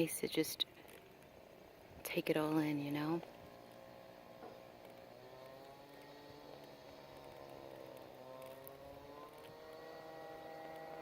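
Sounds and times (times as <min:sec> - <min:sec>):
distant small engine drone: 0:00.0 - 0:11.0.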